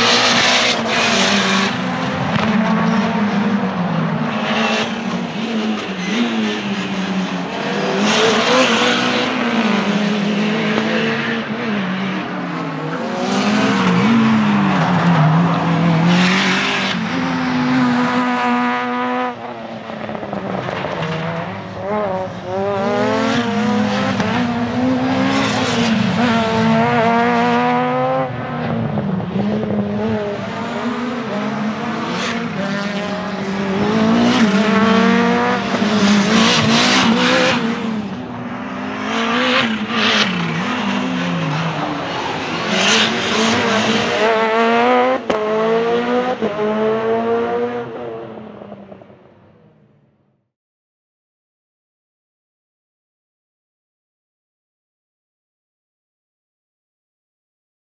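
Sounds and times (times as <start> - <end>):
race car engine revving: 0.0 - 12.0, 12.7 - 48.3.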